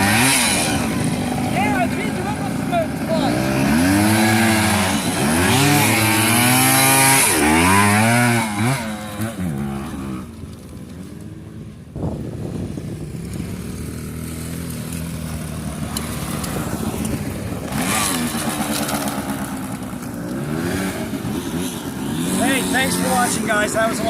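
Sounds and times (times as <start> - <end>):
dirt bike engine revving: 0.0 - 10.4, 12.0 - 24.0
steady engine running: 0.0 - 10.5, 12.6 - 24.0.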